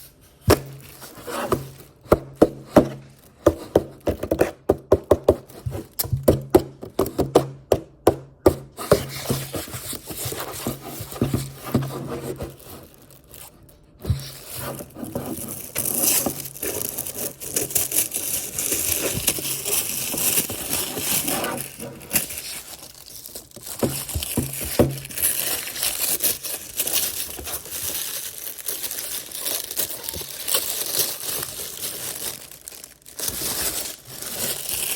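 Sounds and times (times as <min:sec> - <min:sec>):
packaging crinkling and tearing: 0:00.0 - 0:04.0, 0:09.4 - 0:34.9.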